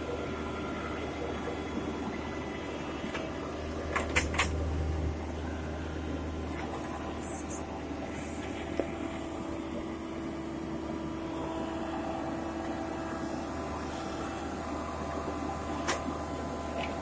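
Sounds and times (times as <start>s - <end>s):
drilling rig engine droning: 0.0s - 17.0s.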